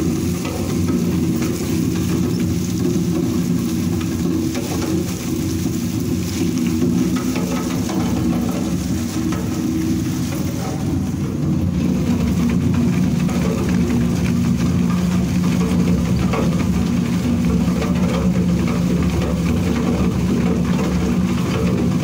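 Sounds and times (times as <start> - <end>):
wood shredder humming: 0.0 - 22.0.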